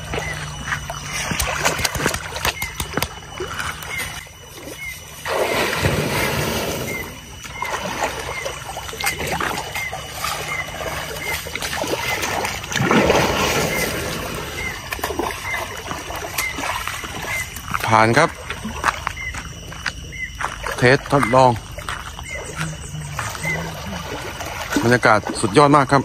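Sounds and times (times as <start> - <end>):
elephant splashing in water: 0.0 - 19.3, 20.1 - 26.0.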